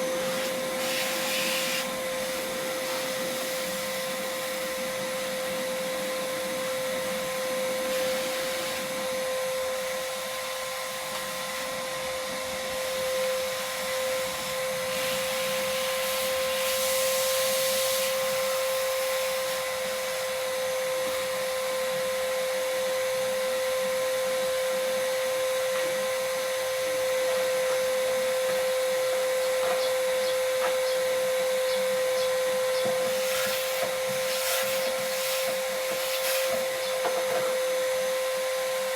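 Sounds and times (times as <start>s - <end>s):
electric motor high whine: 0.0s - 38.9s.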